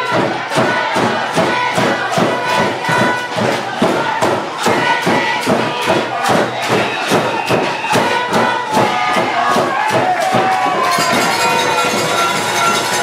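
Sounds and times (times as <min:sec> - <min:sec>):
crowd noise: 0:00.0 - 0:13.0
quick drum beat: 0:00.0 - 0:13.0.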